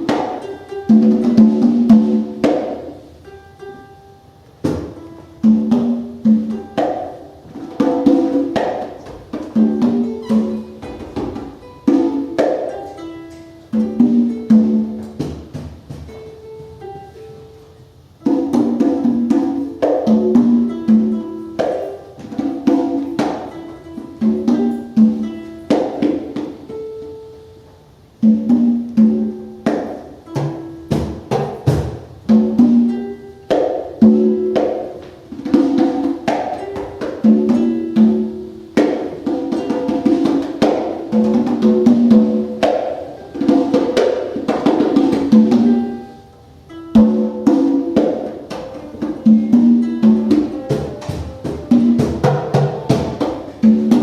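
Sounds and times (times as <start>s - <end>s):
conga drums: 0.0s - 54.0s.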